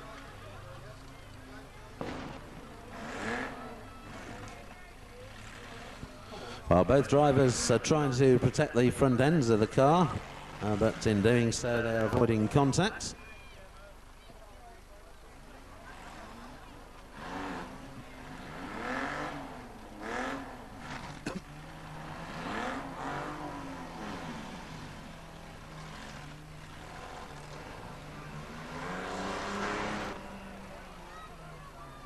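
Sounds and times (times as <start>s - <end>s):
car engines revving: 0.0s - 13.2s, 15.2s - 32.0s.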